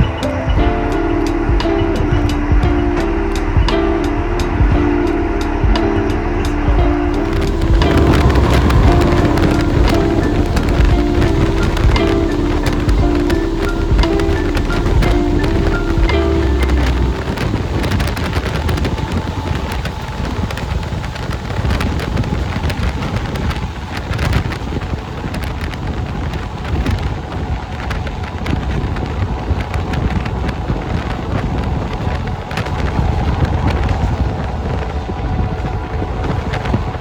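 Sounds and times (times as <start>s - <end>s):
wind rushing over microphone: 0.0s - 37.0s
train wheels clattering over rails: 6.7s - 37.0s.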